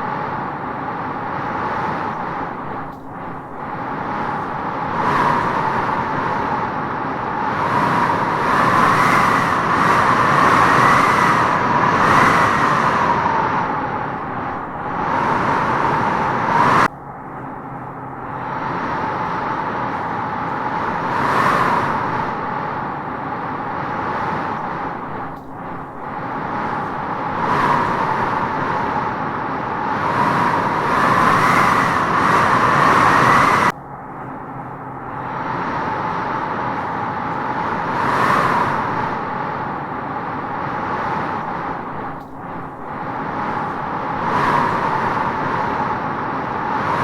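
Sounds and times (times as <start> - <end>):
wind howling through trees: 0.0 - 47.0.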